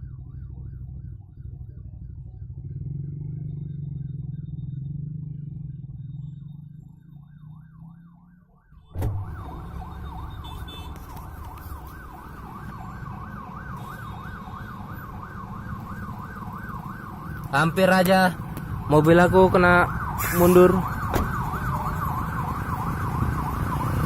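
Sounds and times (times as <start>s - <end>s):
emergency siren wailing: 0.0s - 24.0s
engine and traffic rumble: 0.0s - 24.0s.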